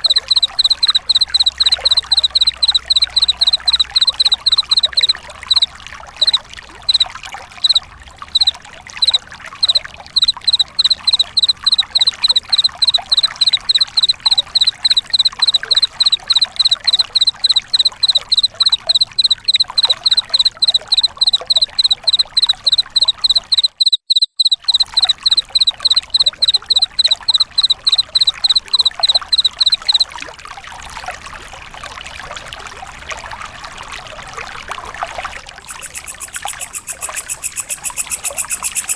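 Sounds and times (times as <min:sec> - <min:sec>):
cricket chirping: 0:00.0 - 0:30.1, 0:35.6 - 0:38.9
running water trickling: 0:00.0 - 0:38.9.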